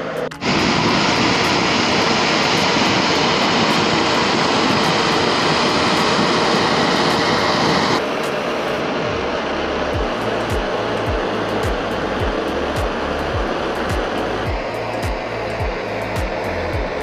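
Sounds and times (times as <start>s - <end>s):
gas stove burner hissing: 0.0s - 17.0s.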